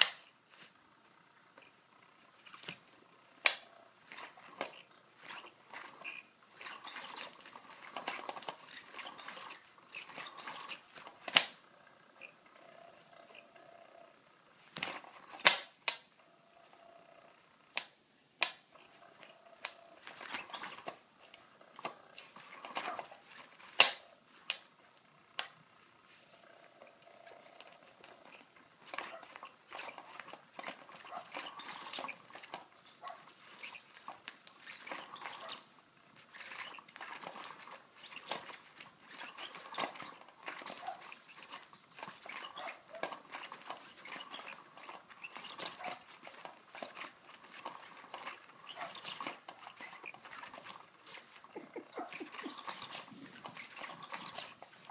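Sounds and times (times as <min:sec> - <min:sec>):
faint motor hum: 0:00.0 - 0:54.9.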